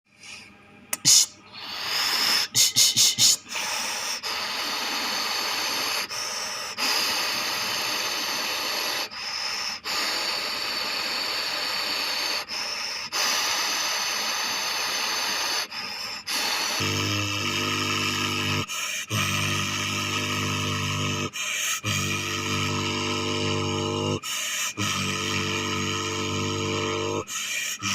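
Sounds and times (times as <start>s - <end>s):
air conditioner fan blowing: 0.1s - 24.2s.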